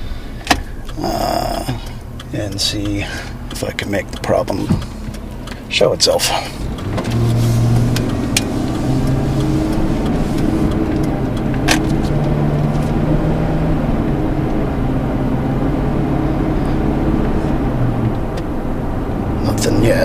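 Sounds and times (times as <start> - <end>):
truck engine accelerating uphill: 0.7 - 20.0.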